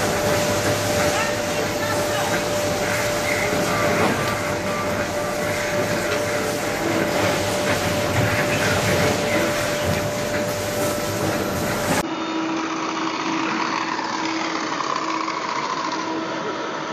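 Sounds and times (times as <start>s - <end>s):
machinery rushing hum: 0.0s - 16.9s
mid-pitched machine whine: 0.0s - 16.9s.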